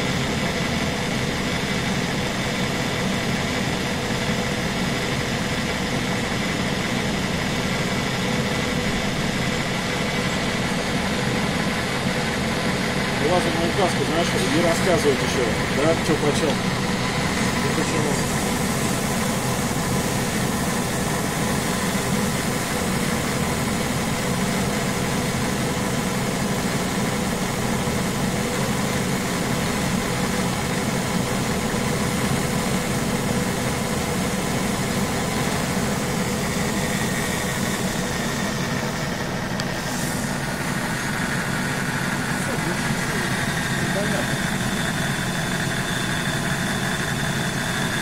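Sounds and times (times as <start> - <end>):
vehicle engine idling: 0.0 - 48.0.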